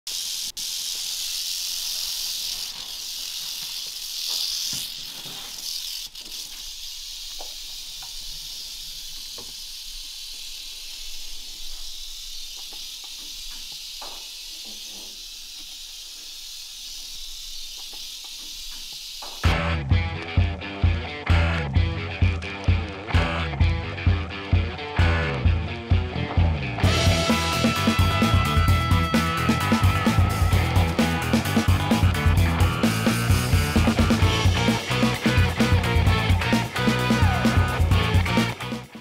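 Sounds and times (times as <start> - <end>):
rattlesnake rattling: 0.0 - 19.5, 26.8 - 39.0.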